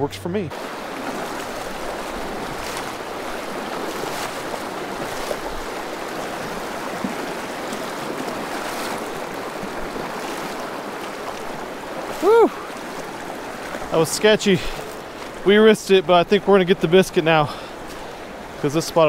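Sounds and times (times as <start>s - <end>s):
river current rushing: 0.5s - 19.0s
water splashing around wader: 0.5s - 19.0s.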